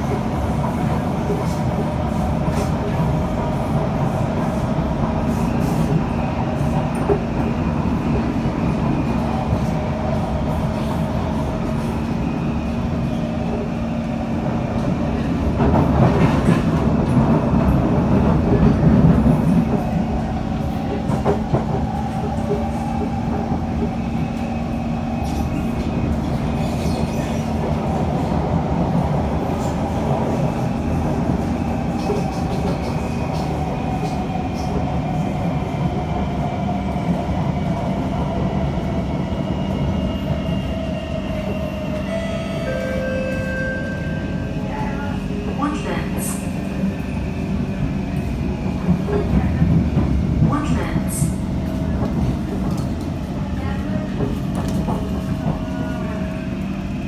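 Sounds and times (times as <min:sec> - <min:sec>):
train wheel-on-rail rumble: 0:00.0 - 0:57.0.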